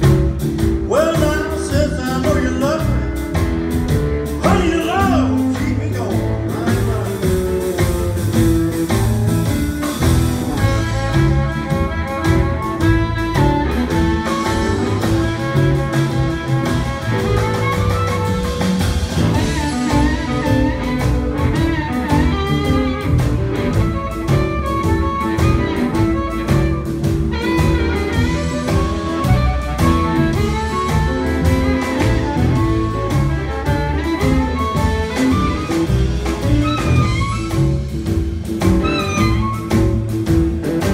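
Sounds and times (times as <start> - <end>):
blues band playing: 0.0 - 40.9
harmonica lead: 6.2 - 40.9.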